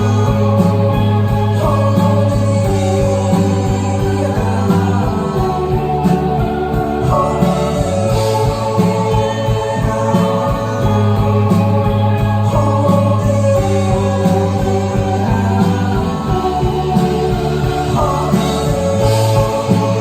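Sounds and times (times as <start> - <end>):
live rock band playing: 0.0 - 20.0
steady drum beat: 0.0 - 20.0.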